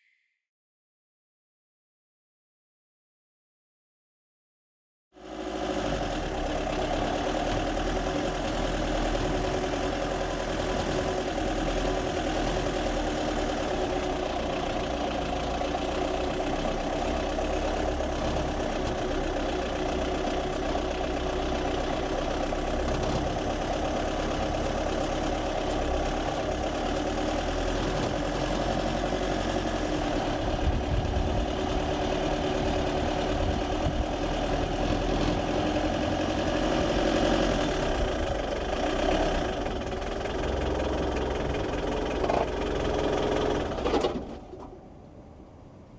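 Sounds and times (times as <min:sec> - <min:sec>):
truck engine running: 0:05.2 - 0:45.8.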